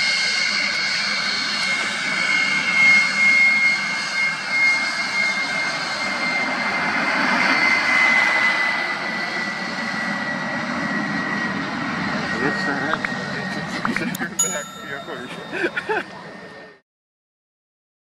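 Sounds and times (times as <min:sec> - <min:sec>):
jet engine high whine: 0:00.0 - 0:16.8.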